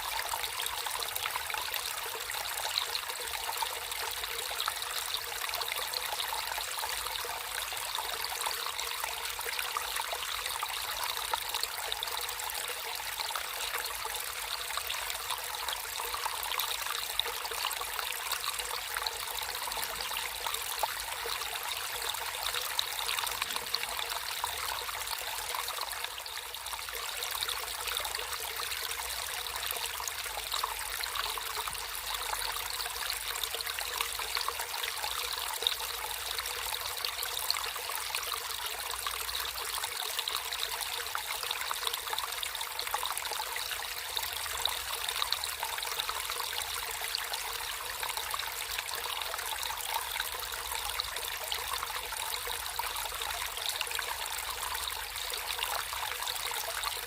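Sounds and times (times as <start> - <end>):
stream trickling and splashing: 0.0 - 57.0.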